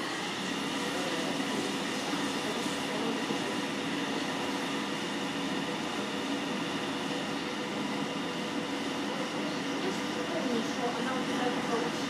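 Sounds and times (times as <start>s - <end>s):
electric locomotive humming: 0.0s - 12.0s.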